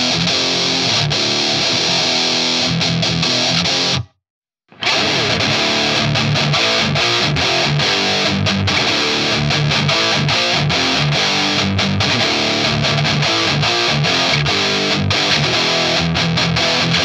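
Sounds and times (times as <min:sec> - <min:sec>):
distorted electric guitar metal riff: 0:00.0 - 0:04.1, 0:04.7 - 0:17.0.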